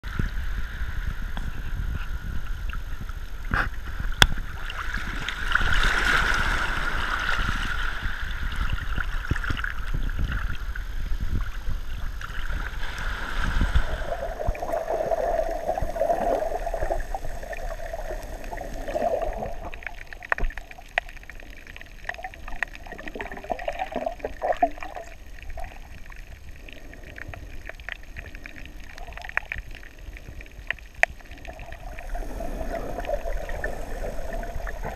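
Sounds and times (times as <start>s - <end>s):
water sloshing and gurgling: 2.7s - 34.9s.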